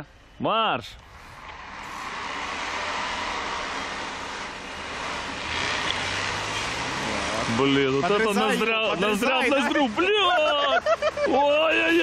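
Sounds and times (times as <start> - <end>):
off-road trucks accelerating: 1.0 - 12.0.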